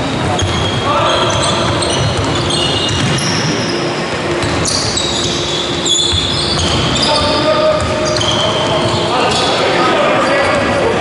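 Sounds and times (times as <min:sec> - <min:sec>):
shoes squeaking on floor: 0:00.0 - 0:10.7
basketball dribbling: 0:00.1 - 0:09.4.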